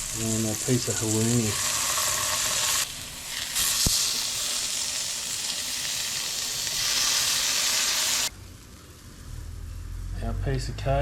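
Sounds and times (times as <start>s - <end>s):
food sizzling in frying pan: 0.0s - 9.3s.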